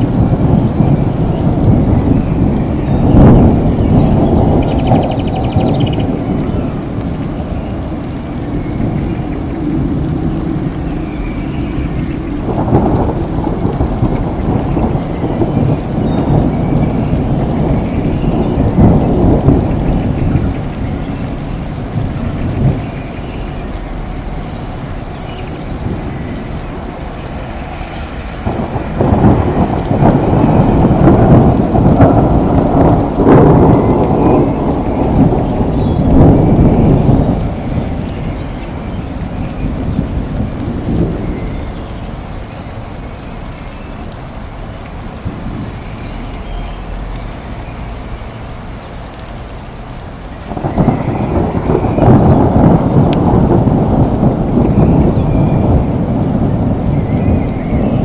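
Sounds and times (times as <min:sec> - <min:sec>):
rolling thunder: 0:00.0 - 0:58.0
steady rain: 0:00.0 - 0:58.0.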